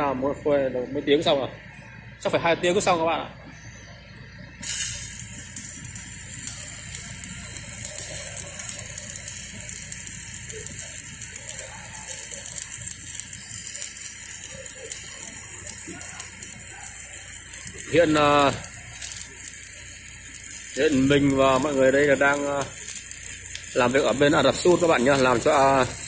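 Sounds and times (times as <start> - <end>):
welding arc crackling: 1.0 - 26.0.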